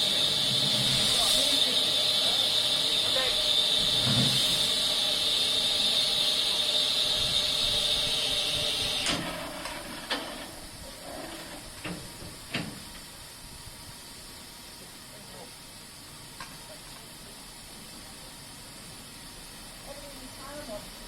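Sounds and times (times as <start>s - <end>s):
steam locomotive hissing steam: 0.0s - 21.0s.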